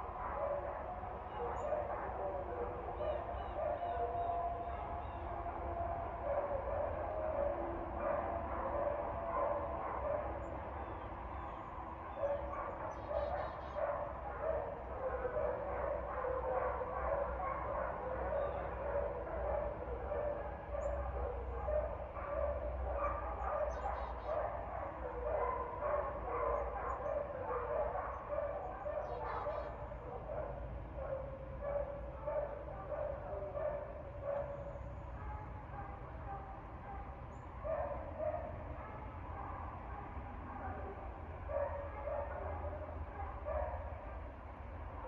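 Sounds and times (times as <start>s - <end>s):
dogs barking: 0.0s - 45.0s.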